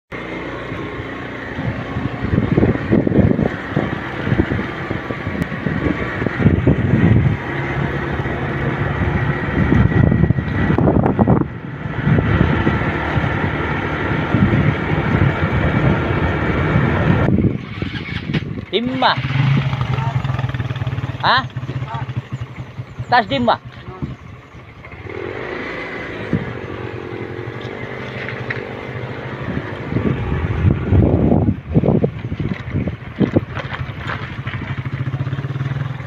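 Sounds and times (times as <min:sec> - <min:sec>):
motorcycle engine running: 0:00.1 - 0:36.0
wind buffeting microphone: 0:01.2 - 0:35.9.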